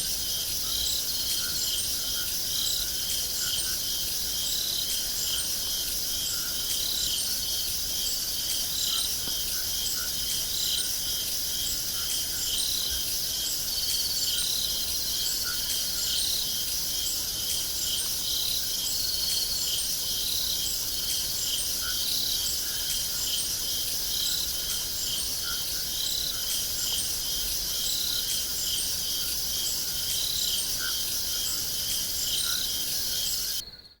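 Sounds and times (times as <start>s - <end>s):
crickets chirping: 0.0s - 34.0s
high insect hum: 0.0s - 34.0s.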